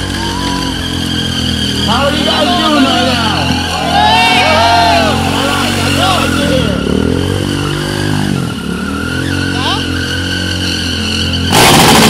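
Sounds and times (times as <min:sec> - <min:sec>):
motorcycle engine revving: 0:00.0 - 0:12.0
tyre skidding on pavement: 0:00.0 - 0:12.0.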